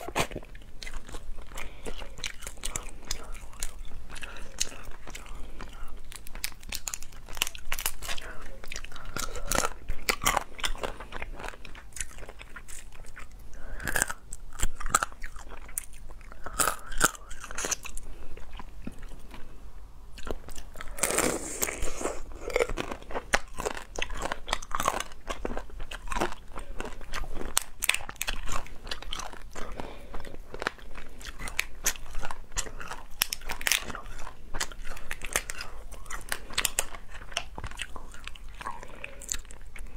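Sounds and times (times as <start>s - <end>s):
crab shell cracking and crunching: 0.0s - 19.0s, 20.2s - 39.9s
chewing: 0.0s - 39.9s.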